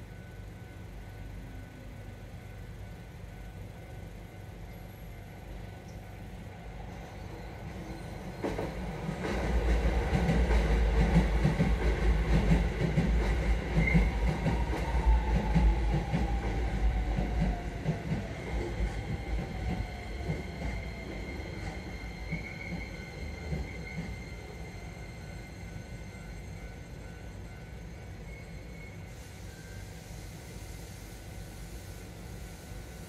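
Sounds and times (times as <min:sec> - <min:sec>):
train whine: 0:00.0 - 0:33.0.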